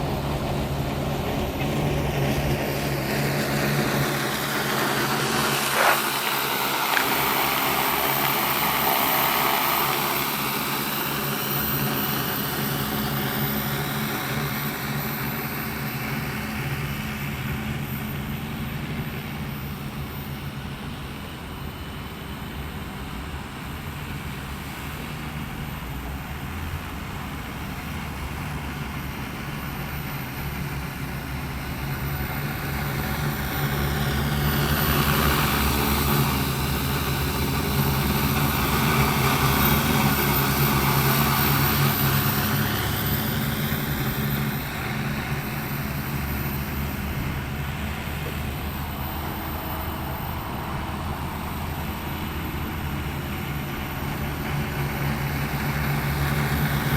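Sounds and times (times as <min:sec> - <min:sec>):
drone rotors humming: 0:00.0 - 0:56.9.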